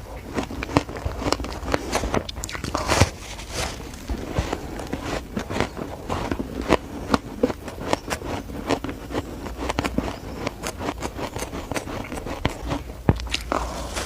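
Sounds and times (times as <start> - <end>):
ice crunching while chewed: 0.0 - 14.0.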